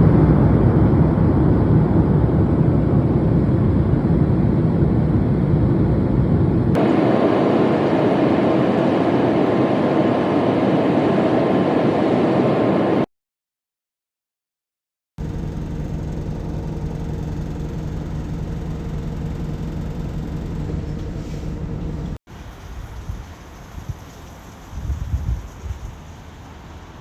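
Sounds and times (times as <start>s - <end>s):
vehicle rumble: 0.0s - 13.0s, 15.2s - 27.0s.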